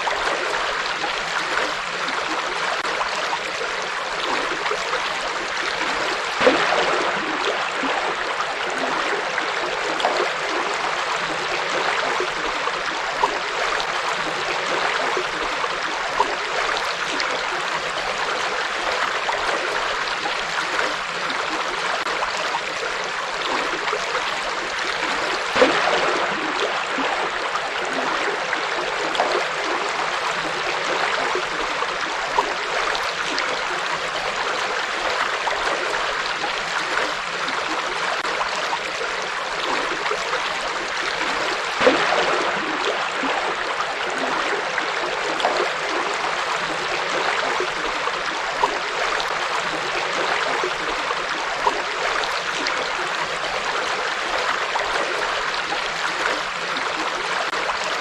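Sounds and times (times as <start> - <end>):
water splashes: 0.0 - 58.0.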